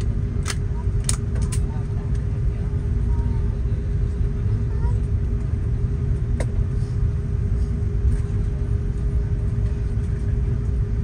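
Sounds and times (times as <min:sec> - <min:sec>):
aircraft cabin rumble: 0:00.0 - 0:11.0
constant hum: 0:00.0 - 0:11.0.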